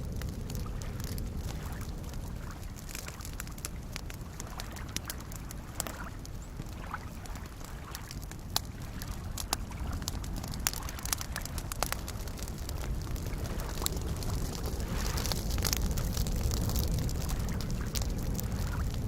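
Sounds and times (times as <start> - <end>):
campfire crackling: 0.0 - 19.0
sharp fire pops: 0.0 - 19.0
small waves lapping: 0.2 - 18.9.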